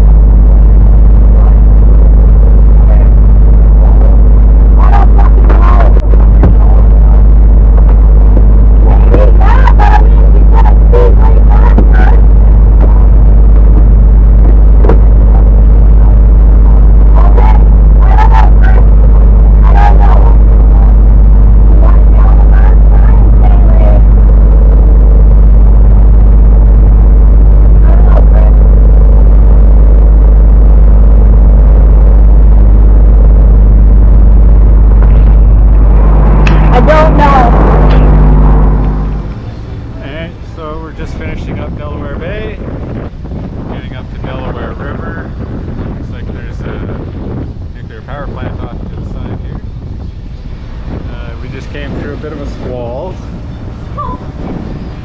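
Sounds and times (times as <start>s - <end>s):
muffled voices: 0.0s - 25.2s, 27.4s - 29.2s, 34.0s - 42.8s, 43.4s - 49.7s, 50.9s - 54.2s
boat engine droning: 0.0s - 55.0s
strong wind buffeting microphone: 0.0s - 55.0s.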